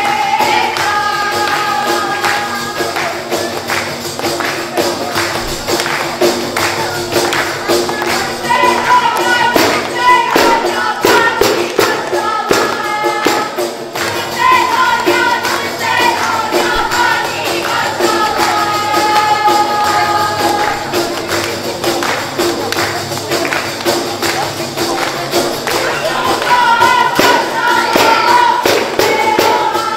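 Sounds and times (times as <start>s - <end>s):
frame drums with jingles: 0.0s - 29.9s.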